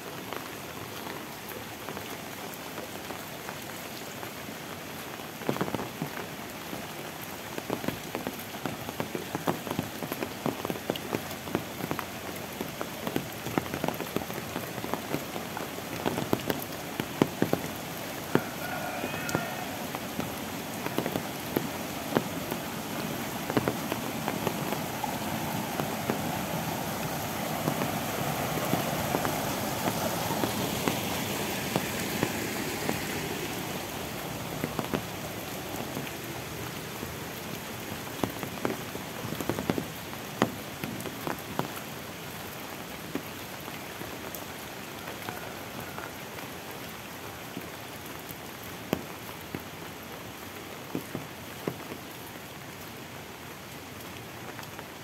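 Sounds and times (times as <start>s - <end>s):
rain falling on leaves: 0.0s - 55.0s
raindrops striking close by: 0.0s - 55.0s
water rushing over a weir: 0.0s - 55.0s.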